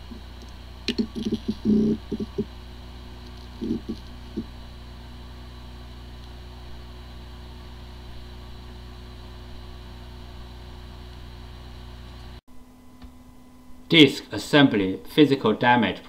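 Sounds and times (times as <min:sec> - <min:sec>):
hard drive spinning hum: 0:00.0 - 0:13.8
short low buzzes: 0:00.0 - 0:13.9.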